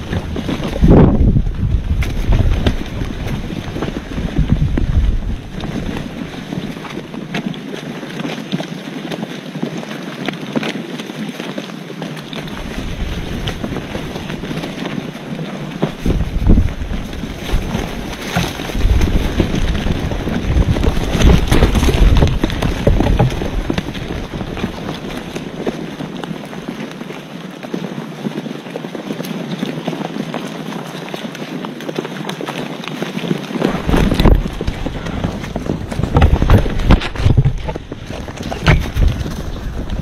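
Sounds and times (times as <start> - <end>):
wind buffeting the microphone: 0.0 - 8.3, 12.2 - 28.0, 29.0 - 40.0.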